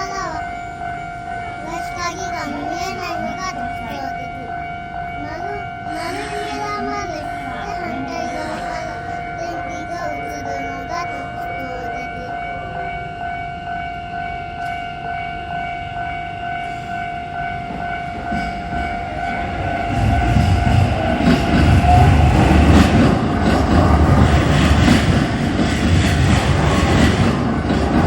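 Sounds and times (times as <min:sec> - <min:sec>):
level crossing warning bell: 0:00.0 - 0:28.0
train rumble and wheel clatter: 0:00.0 - 0:28.0.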